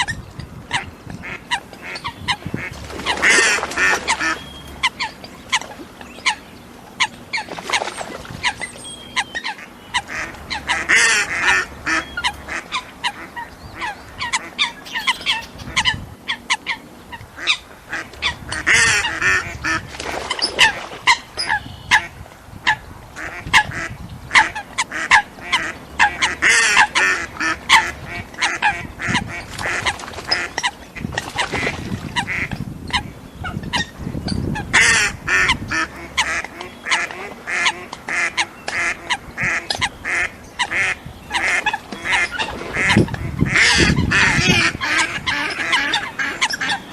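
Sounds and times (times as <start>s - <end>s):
duck quacking: 0.1s - 5.6s, 9.2s - 16.8s, 17.4s - 33.1s, 34.6s - 46.9s.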